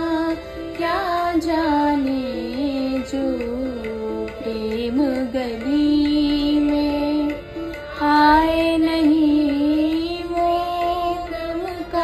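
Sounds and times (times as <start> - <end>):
musical accompaniment: 0.0 - 12.0.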